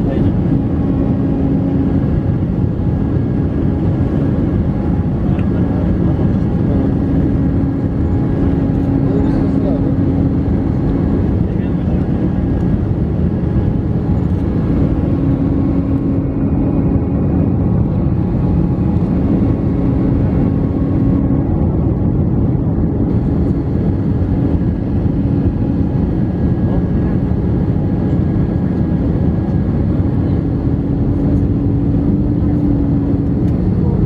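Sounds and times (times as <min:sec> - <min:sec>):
airplane cabin jet engine noise: 0:00.0 - 0:34.0
constant low hum: 0:00.0 - 0:34.0.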